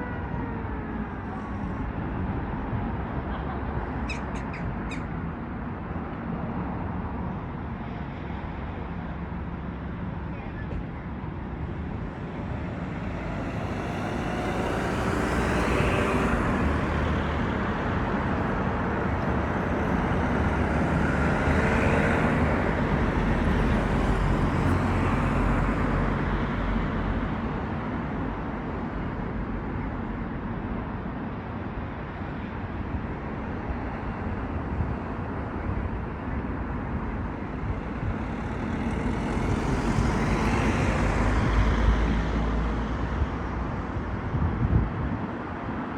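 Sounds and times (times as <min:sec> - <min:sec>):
low traffic rumble: 0:00.0 - 0:45.9
vehicles passing: 0:00.0 - 0:45.9.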